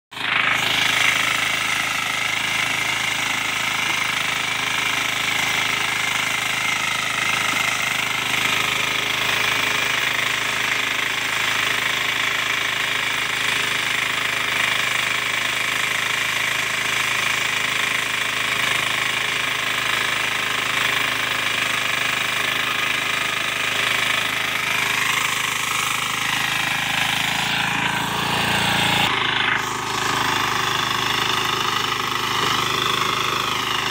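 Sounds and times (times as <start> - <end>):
power tiller churning soil: 0.1 - 33.9.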